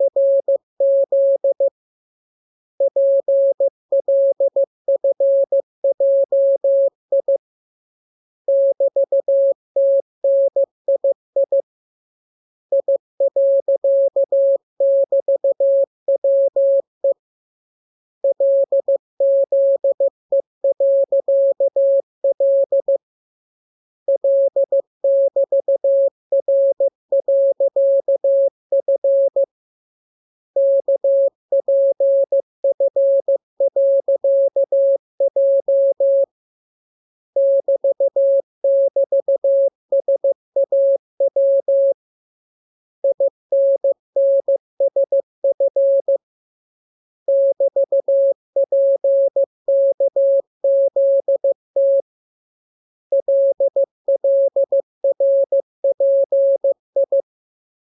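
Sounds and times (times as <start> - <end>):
morse code beeps: 0.0 - 1.8, 2.8 - 7.4, 8.5 - 11.7, 12.7 - 17.2, 18.2 - 23.0, 24.1 - 29.5, 30.6 - 36.3, 37.4 - 42.0, 43.0 - 46.2, 47.3 - 52.1, 53.1 - 57.2.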